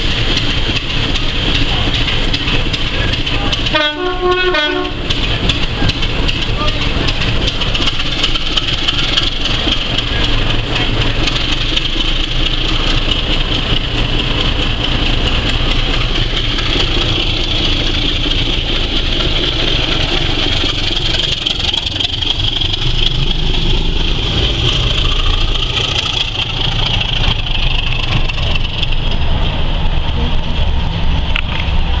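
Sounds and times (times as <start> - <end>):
constant high whine: 0.0 - 32.0
diesel locomotive engine: 0.0 - 32.0.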